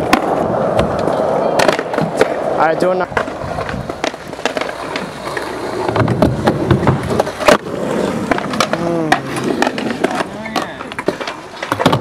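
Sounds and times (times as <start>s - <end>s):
loud skateboard smack: 0.0s - 2.4s, 3.1s - 12.0s
skateboard decks clacking on ground: 0.0s - 12.0s
skateboard wheels rolling: 0.0s - 12.0s.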